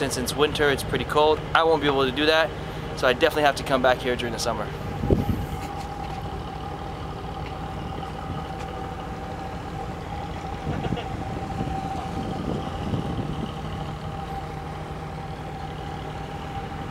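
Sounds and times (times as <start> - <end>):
boat engine droning: 0.0 - 16.9.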